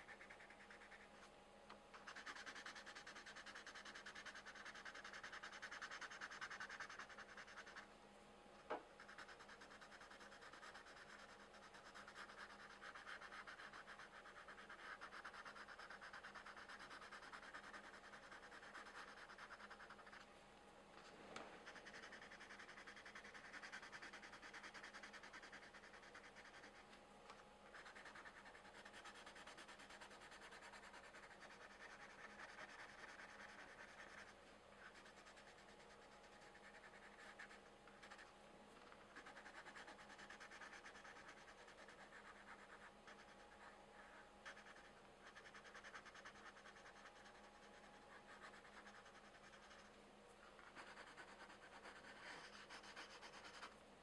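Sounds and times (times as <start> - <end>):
pencils scratching on paper: 0.0 - 1.3, 1.9 - 7.9, 9.0 - 20.3, 21.0 - 53.8
faint steady hum: 0.0 - 54.0.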